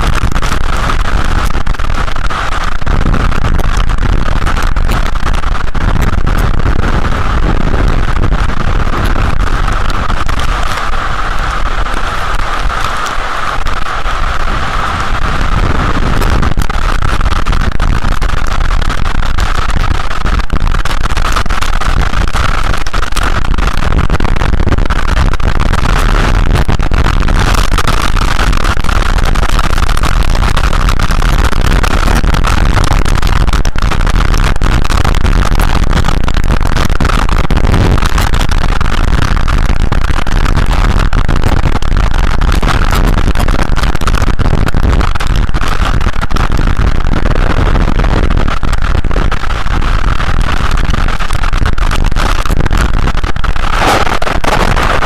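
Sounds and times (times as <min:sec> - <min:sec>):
heavy rain: 0:00.0 - 0:55.0
wind rumble on microphone: 0:00.0 - 0:55.0.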